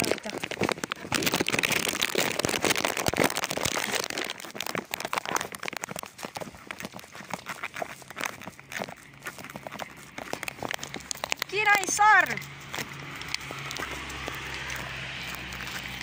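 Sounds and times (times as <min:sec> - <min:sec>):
rustling and crackling: 0:00.0 - 0:16.0.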